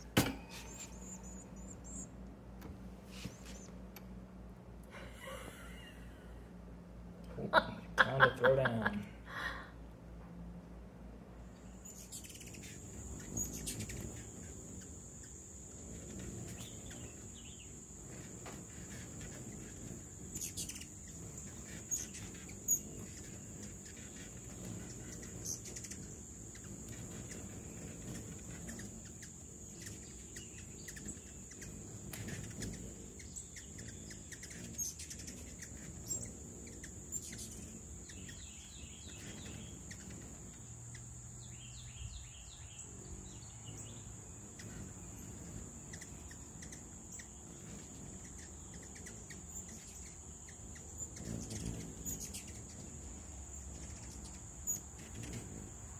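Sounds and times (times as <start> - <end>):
hummingbird chittering: 0.0 - 2.3, 11.4 - 55.9
hummingbird chip calls: 0.6 - 2.2, 11.6 - 55.8.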